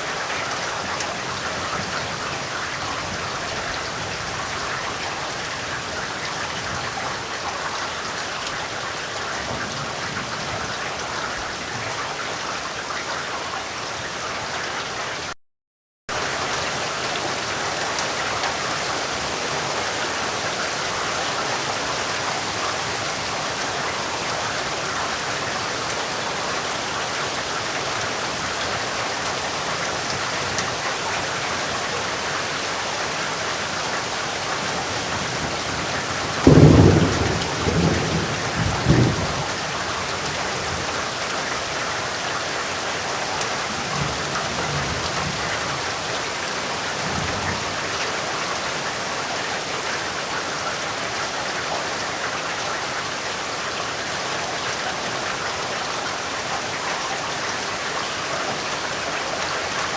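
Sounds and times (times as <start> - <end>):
heavy rain falling: 0.0 - 15.4, 16.1 - 59.9.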